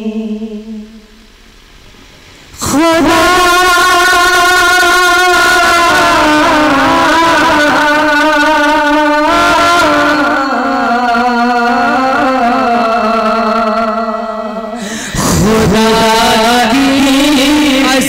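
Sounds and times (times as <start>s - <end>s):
man singing through microphone: 2.6s - 18.0s.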